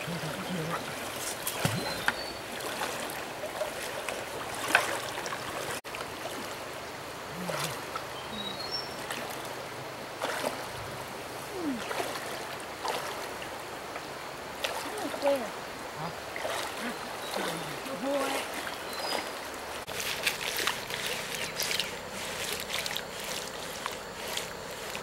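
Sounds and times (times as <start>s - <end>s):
stream water swirling around legs: 0.0s - 25.0s
water splashes: 0.0s - 25.0s.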